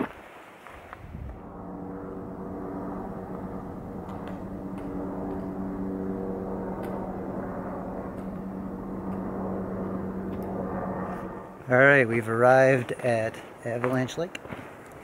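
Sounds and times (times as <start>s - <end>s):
faint rushing background: 0.0s - 15.0s
low engine drone: 0.8s - 13.2s.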